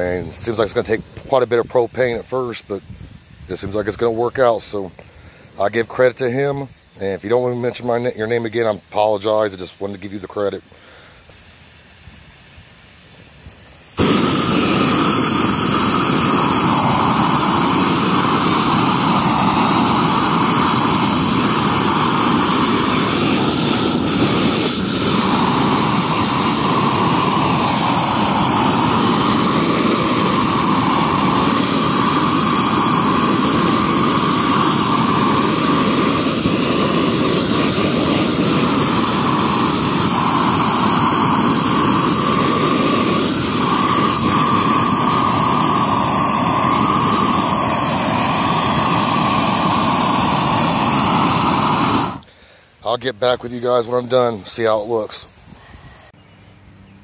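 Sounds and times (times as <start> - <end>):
propane torch flame rushing: 0.0 - 56.1.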